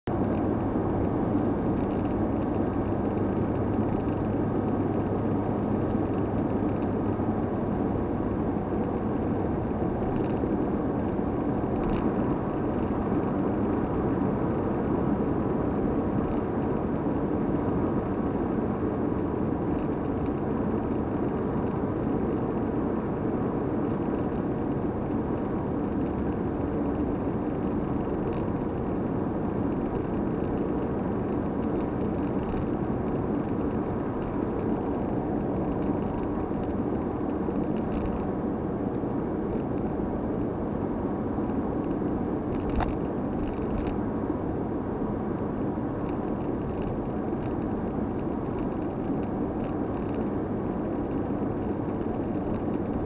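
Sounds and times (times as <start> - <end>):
car road noise inside cabin: 0.1 - 53.0.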